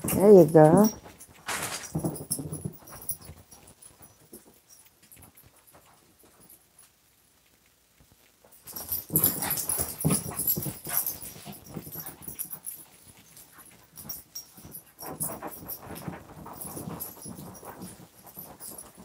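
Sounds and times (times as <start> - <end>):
dogs playing and scuffling: 0.0 - 19.0.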